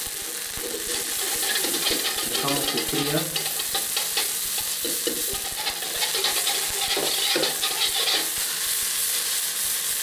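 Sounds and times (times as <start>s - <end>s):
patty sizzling in oil: 0.0s - 10.0s.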